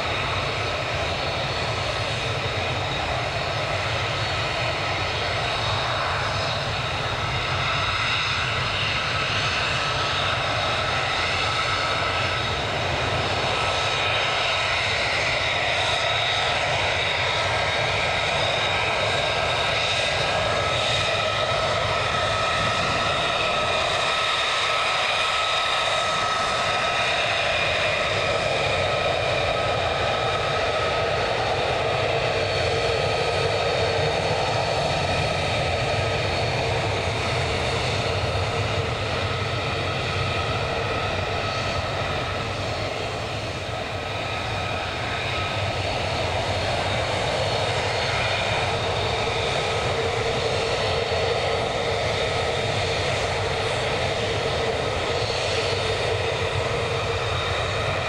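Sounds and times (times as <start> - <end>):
jet engine whine: 0.0 - 58.0.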